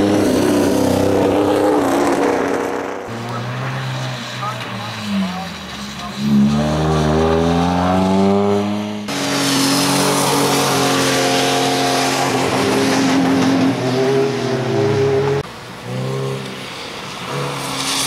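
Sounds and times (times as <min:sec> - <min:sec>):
car engine revving: 0:00.0 - 0:18.0
tires hissing on wet pavement: 0:02.4 - 0:18.0.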